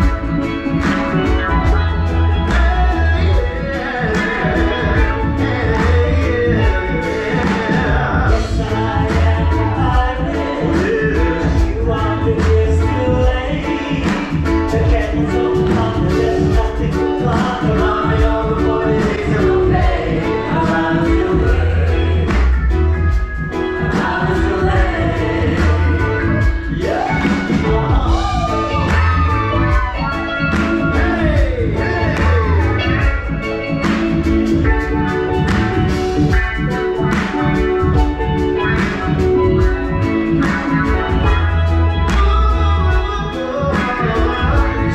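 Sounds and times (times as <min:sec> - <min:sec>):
live band playing: 0:00.0 - 0:44.9
person singing: 0:00.0 - 0:44.9.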